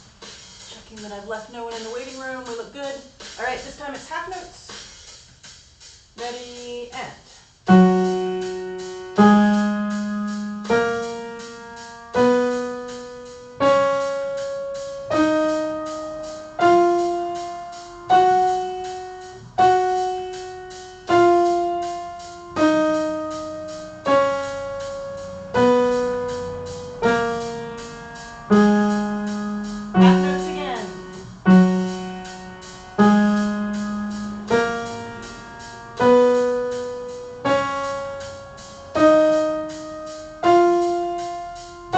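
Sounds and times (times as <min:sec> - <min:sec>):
piano chords: 0:07.7 - 0:41.9.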